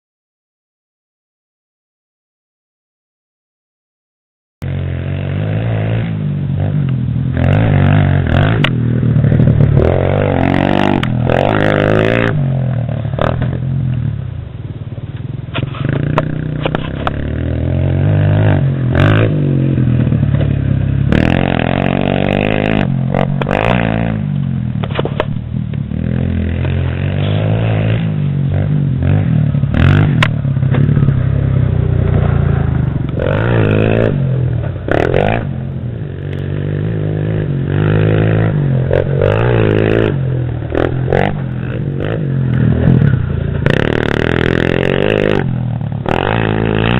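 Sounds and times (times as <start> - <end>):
pit bike engine revving: 4.6 - 13.9, 15.6 - 46.9.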